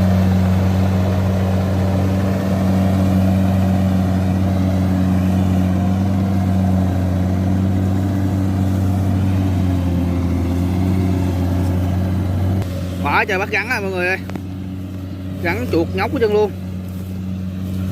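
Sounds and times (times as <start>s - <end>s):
combine harvester engine hum: 0.0s - 17.9s.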